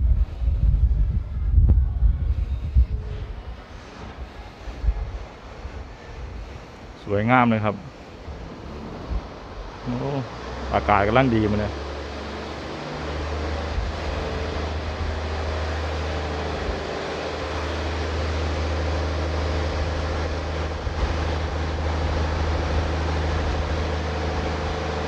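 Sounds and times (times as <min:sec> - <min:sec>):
low engine drone: 0:00.0 - 0:25.0
outdoor noise: 0:00.0 - 0:25.0.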